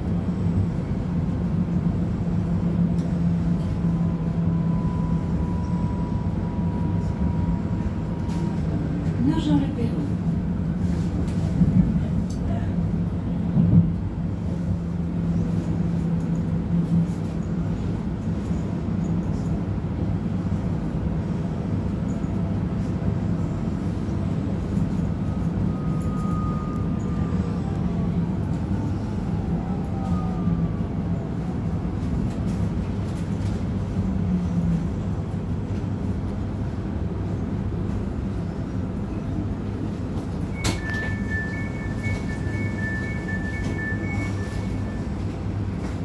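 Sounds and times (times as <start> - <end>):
train interior rumble and hum: 0.0 - 46.0.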